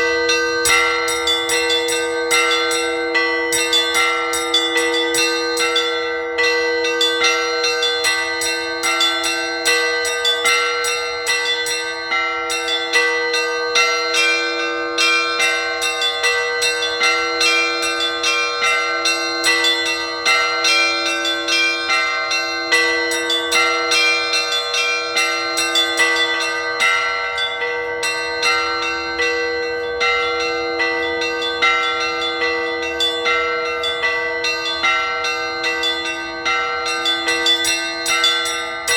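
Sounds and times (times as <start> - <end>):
deep bell tolling: 0.0 - 38.9
small high bells ringing: 0.0 - 38.9.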